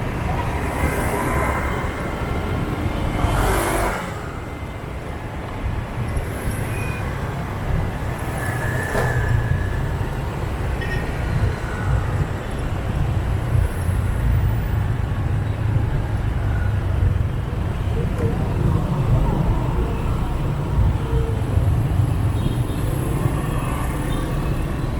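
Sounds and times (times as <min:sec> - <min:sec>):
surrounding traffic: 0:00.0 - 0:24.9.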